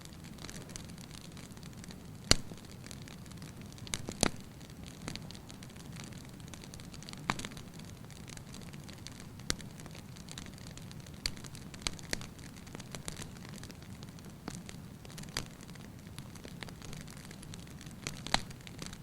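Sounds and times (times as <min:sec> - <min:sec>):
wood fire crackling: 0:00.0 - 0:19.0
sharp fire pops: 0:00.1 - 0:19.0.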